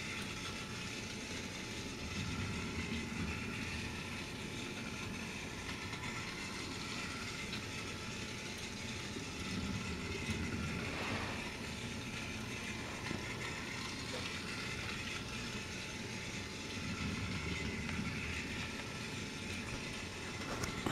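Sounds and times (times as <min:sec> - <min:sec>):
toy train motor whirring: 0:00.0 - 0:20.9.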